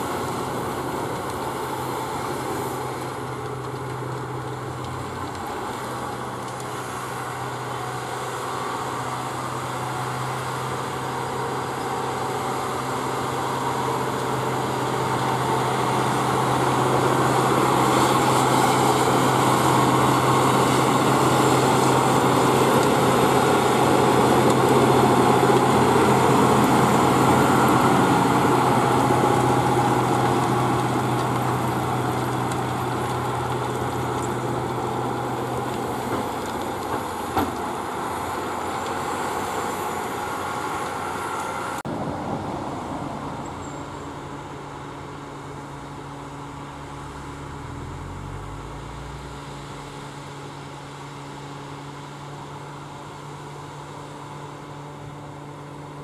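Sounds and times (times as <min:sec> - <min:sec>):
tractor diesel engine running hard: 0:00.0 - 0:56.0.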